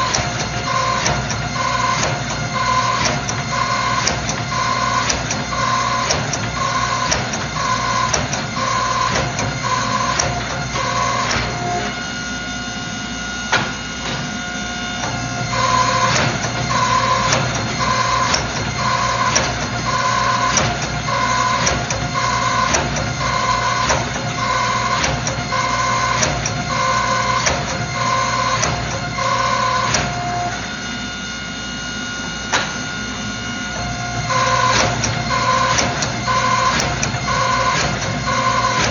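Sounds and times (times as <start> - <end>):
machine hum: 0.0 - 38.9.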